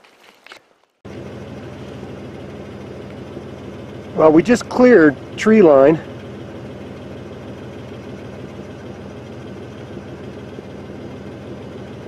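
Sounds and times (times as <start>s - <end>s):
vehicle engine low hum: 1.0s - 12.0s.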